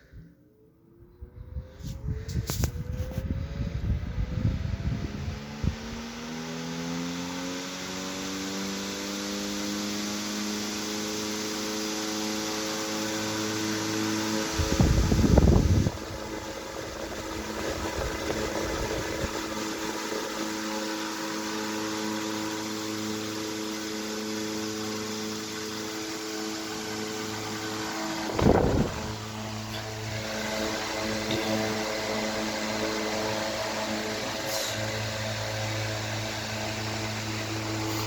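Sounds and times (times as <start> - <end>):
electric fan running: 0.0 - 38.0.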